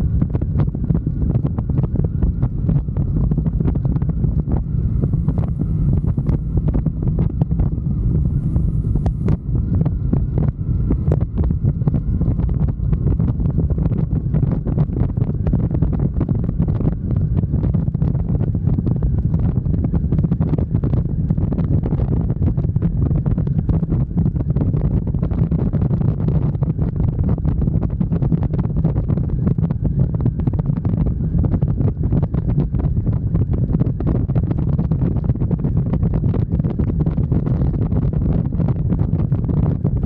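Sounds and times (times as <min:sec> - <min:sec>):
motorcycle engine rumble: 0:00.0 - 0:40.0
wind buffeting microphone: 0:00.0 - 0:40.0.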